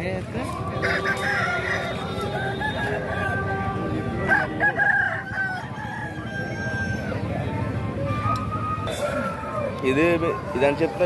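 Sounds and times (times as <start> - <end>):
roosters crowing: 0.5 - 11.0.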